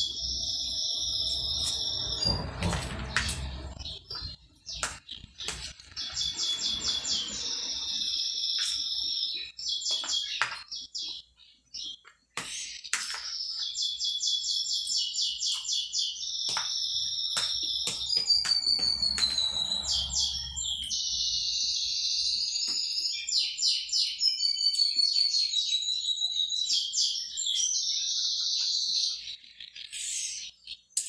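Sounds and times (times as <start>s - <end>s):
songbird trilling chirps: 0.0s - 31.0s.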